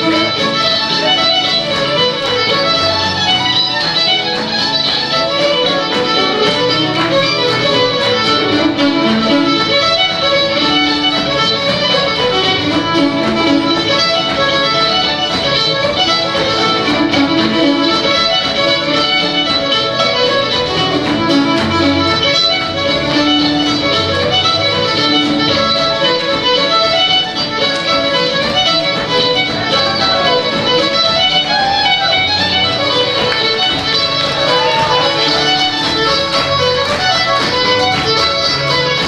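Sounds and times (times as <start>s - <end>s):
fiddle playing quick notes: 0.0s - 39.0s
keyboard backing: 0.0s - 39.0s.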